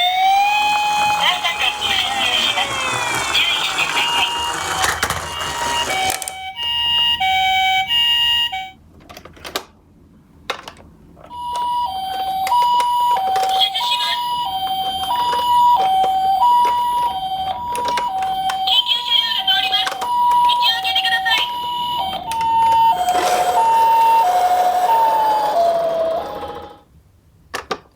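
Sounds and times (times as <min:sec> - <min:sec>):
two-tone ambulance siren: 0:00.0 - 0:08.8, 0:11.3 - 0:26.8.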